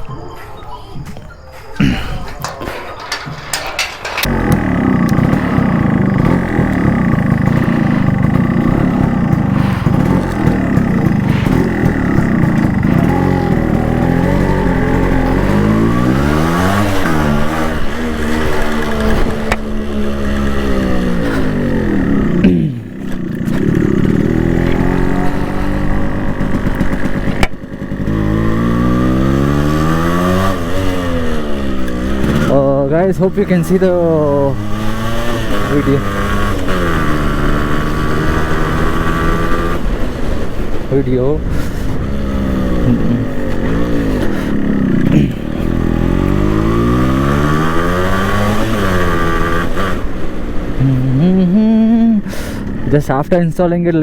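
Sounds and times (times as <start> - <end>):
motorcycle engine pulling: 1.0 - 54.0.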